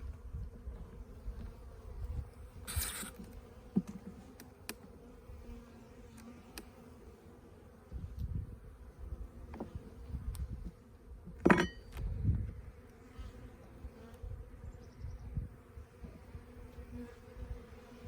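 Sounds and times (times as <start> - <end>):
honey bees buzzing: 0.0 - 11.5, 12.1 - 18.0.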